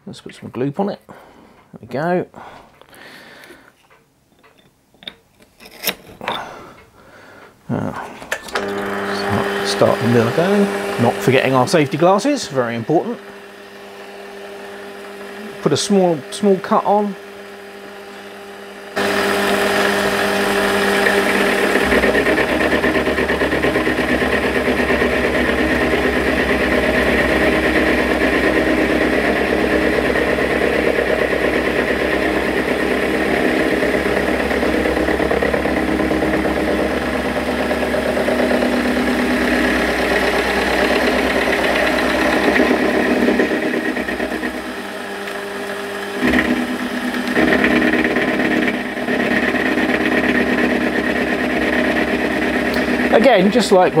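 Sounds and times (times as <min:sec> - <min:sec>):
metal lathe machining whine: 0:08.5 - 0:54.0.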